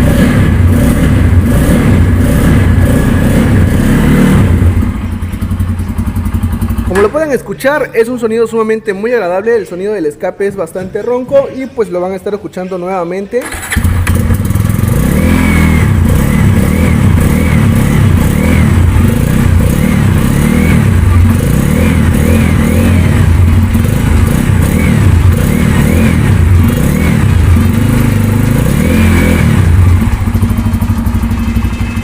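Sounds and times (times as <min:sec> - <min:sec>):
motorcycle engine revving: 0:00.0 - 0:07.4, 0:13.4 - 0:32.0.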